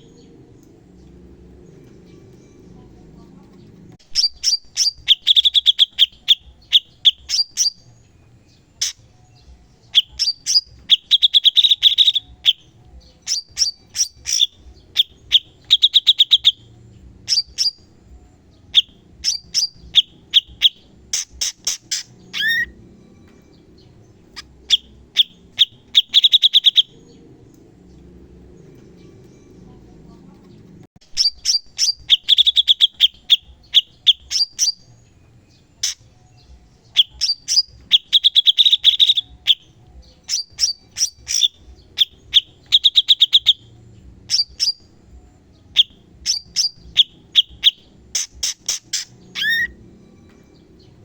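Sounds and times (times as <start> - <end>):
songbird chattering: 0.0 - 29.7, 30.3 - 49.8.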